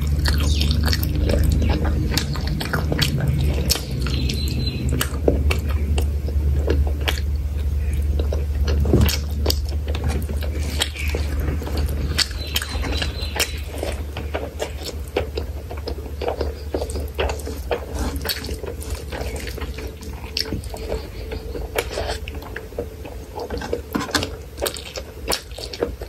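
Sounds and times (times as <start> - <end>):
chewing and biting food: 0.0 - 26.0
fingers mixing rice wet clicks: 0.0 - 26.0
steady low hum: 0.0 - 26.0.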